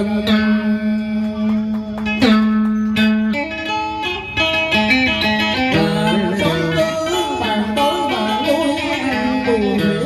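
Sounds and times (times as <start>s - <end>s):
amplified guitar plucked with sliding notes: 0.0s - 10.0s.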